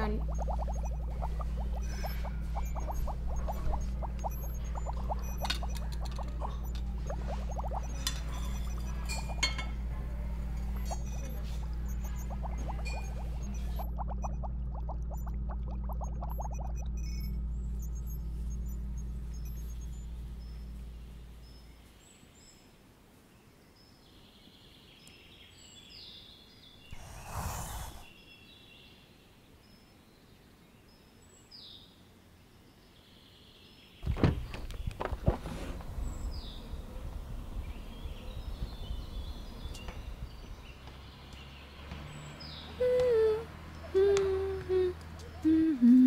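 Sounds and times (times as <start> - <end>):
low background noise: 0.0 - 46.0
small birds chirping: 0.0 - 46.0.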